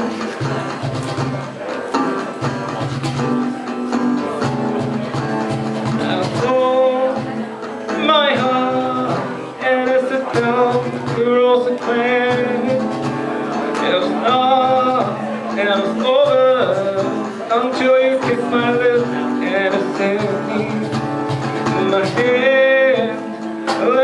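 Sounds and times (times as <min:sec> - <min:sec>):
acoustic guitar playing: 0:00.0 - 0:24.0
person singing: 0:00.0 - 0:24.0.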